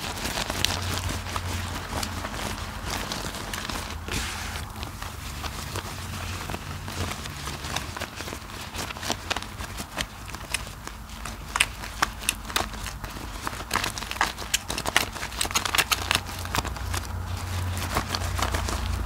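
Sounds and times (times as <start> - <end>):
wet soap squelching: 0.0 - 19.0.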